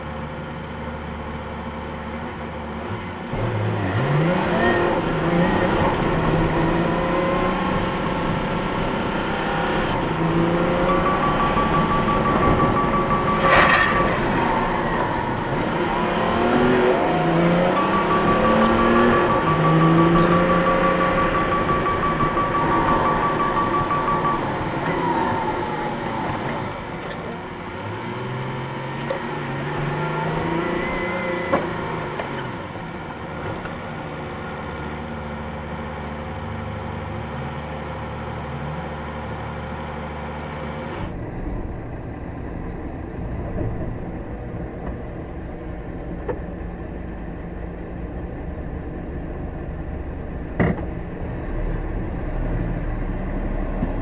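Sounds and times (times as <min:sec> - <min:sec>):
lorry diesel engine slowing and idling: 0:00.0 - 0:54.0.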